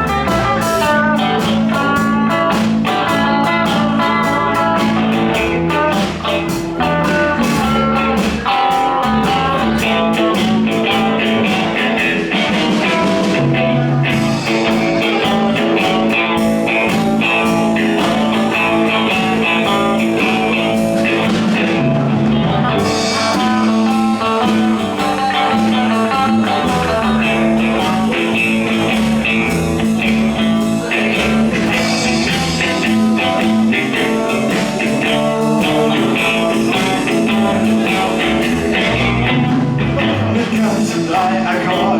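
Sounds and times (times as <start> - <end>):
guitar: 0.0 - 41.9
live blues band: 0.0 - 41.9
steady bass line: 0.0 - 41.9.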